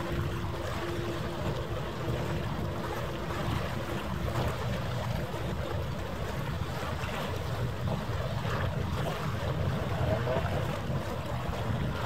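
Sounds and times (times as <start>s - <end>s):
faint steady hum: 0.0s - 12.0s
wind noise on microphone: 0.0s - 12.0s.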